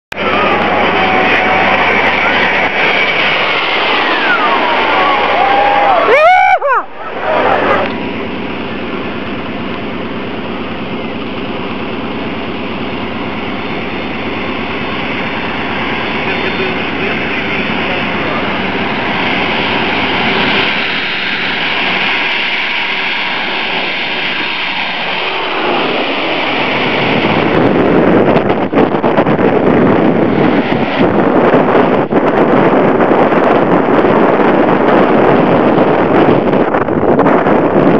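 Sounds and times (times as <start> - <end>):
jet engines rumble and whine: 0.1 - 37.9
wind buffeting microphone: 0.1 - 37.9.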